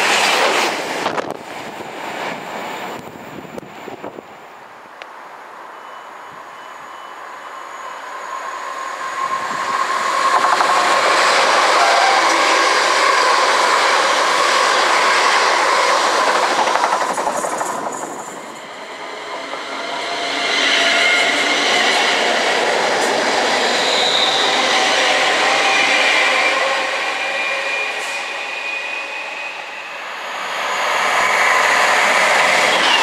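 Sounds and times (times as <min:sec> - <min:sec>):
train wheels rushing on rail: 0:00.0 - 0:04.4, 0:06.3 - 0:33.0
train passing at speed: 0:00.0 - 0:33.0.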